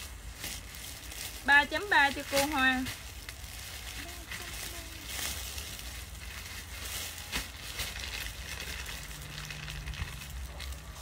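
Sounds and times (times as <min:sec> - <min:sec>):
clothes rustling: 0:00.0 - 0:11.0.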